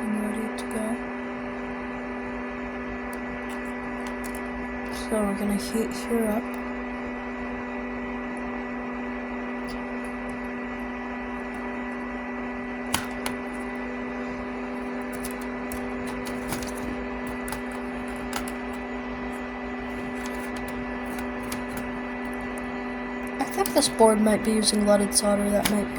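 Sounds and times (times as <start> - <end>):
electrical hum with hiss: 0.0 - 25.9.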